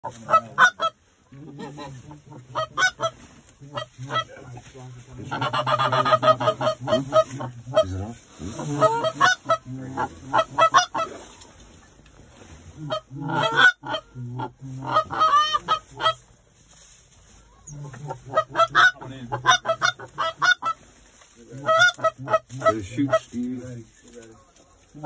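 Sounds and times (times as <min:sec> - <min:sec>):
goose honking and clucking: 0:00.0 - 0:11.9, 0:12.7 - 0:16.3, 0:17.6 - 0:23.8.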